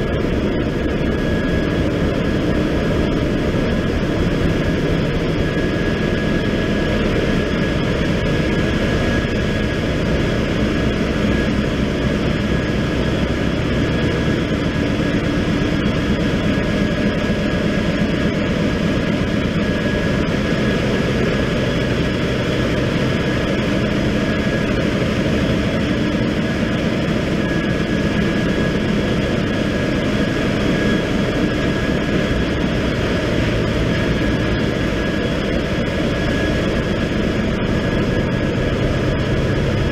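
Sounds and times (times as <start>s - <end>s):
ship engines deep rumble: 0.0s - 39.9s
thin steady machinery whine: 0.0s - 39.9s.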